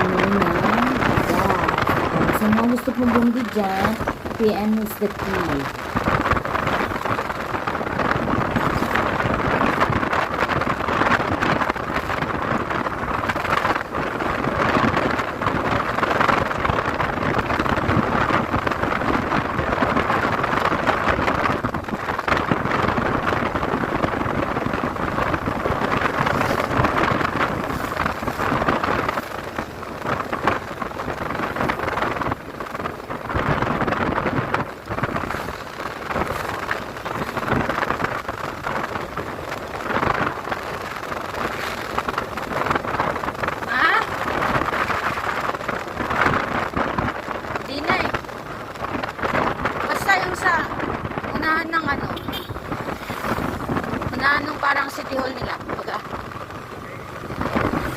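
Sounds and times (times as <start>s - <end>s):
motorcycle road noise: 0.0s - 57.9s
wind rushing over microphone: 0.0s - 57.9s.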